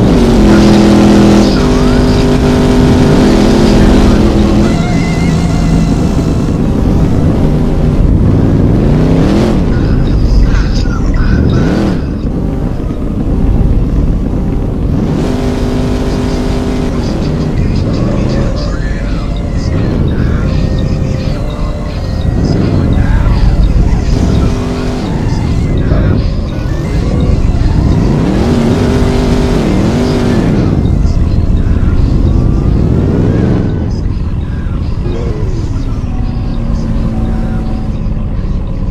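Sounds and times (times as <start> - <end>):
car engines idling and revving: 0.0 - 38.9.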